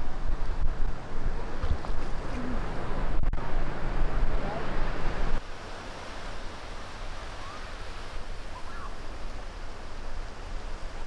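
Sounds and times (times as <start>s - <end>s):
ocean surf washing onto beach: 0.0s - 11.0s.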